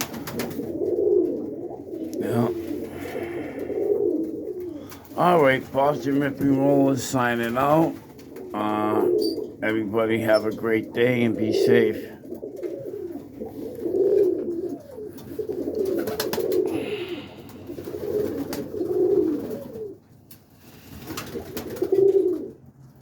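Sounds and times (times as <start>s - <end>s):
pigeons cooing: 0.0s - 22.8s.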